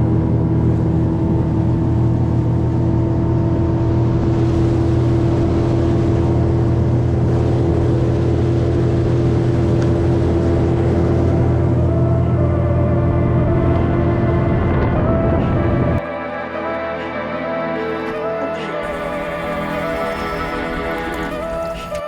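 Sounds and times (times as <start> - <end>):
boat motor droning: 0.0 - 16.0, 18.8 - 22.0.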